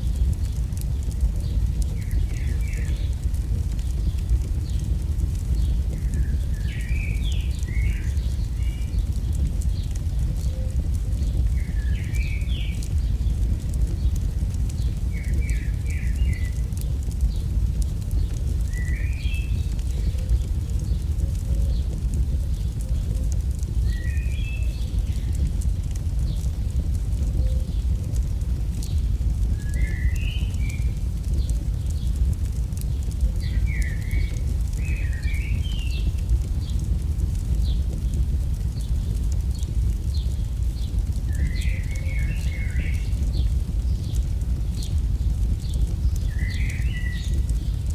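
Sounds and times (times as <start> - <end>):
fire rumbling with crackles: 0.0 - 47.9.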